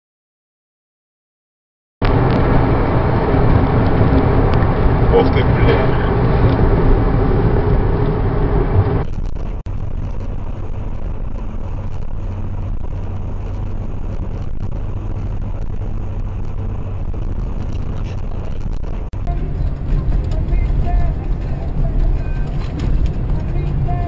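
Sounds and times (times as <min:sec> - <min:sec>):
car cabin drone at speed: 0:02.0 - 0:24.0.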